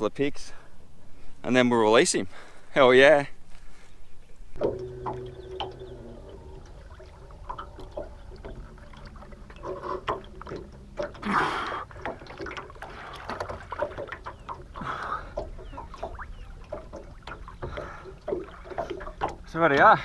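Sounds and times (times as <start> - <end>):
knocks and clunks in boat: 2.3 - 20.0.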